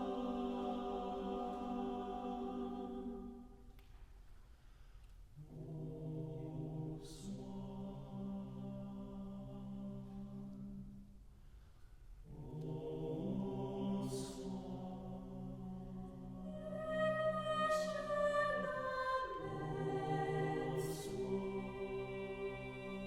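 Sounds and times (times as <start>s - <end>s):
mixed choir singing chords: 0.0s - 3.7s, 5.4s - 10.9s, 12.2s - 23.0s.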